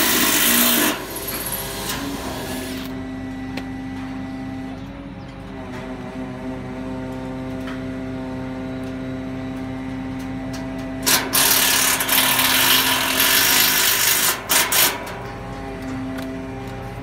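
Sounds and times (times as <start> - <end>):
crane engine running: 0.0 - 17.0.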